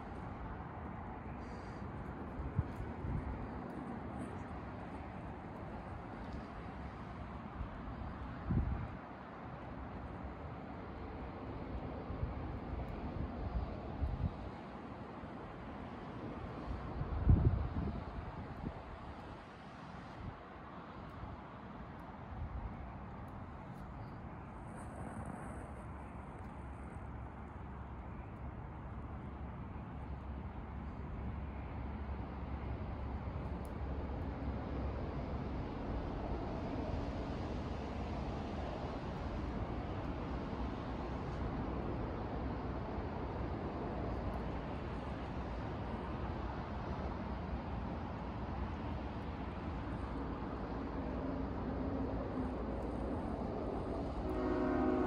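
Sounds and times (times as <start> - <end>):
distant diesel train rumble: 0.0 - 55.0.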